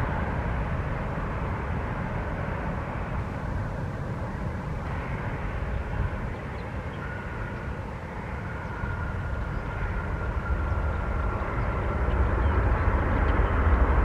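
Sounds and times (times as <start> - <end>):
jet engine whine: 0.0 - 14.0
jet engines rumbling: 0.0 - 14.0.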